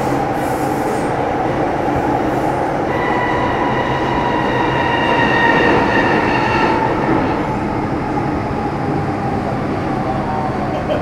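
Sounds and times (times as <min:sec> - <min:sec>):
train rumbling in tunnel: 0:00.0 - 0:11.0.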